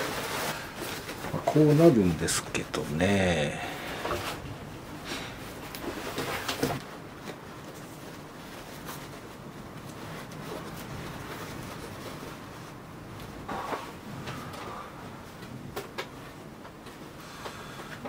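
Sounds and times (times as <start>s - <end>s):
cloth rustling: 0.0s - 14.5s
low steady hiss: 0.0s - 18.0s.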